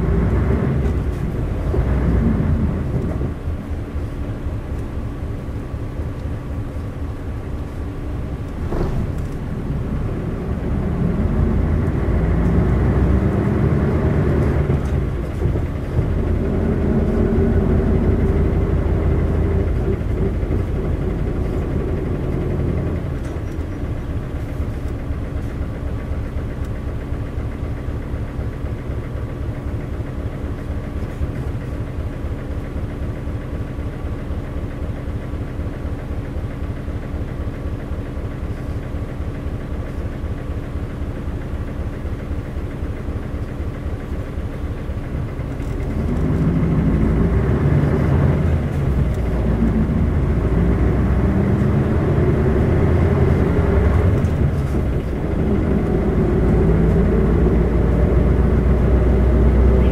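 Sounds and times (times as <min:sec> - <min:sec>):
diesel bus engine idling and revving: 0:00.0 - 0:59.9.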